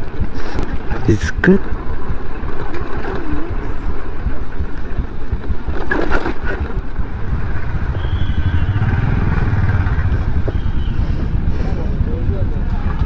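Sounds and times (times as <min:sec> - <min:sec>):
wind noise on microphone: 0:00.0 - 0:13.0
scooter engine running: 0:01.6 - 0:13.0.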